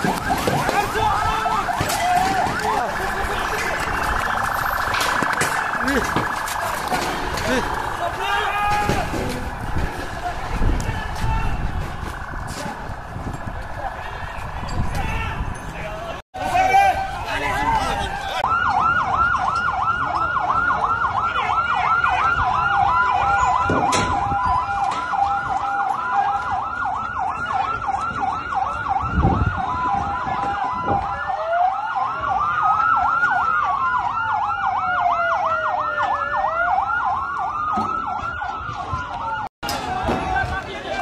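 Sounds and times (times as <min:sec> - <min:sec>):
police siren yelping: 0:00.0 - 0:14.7, 0:16.9 - 0:41.0
slower wailing siren: 0:00.0 - 0:14.8, 0:16.8 - 0:40.6.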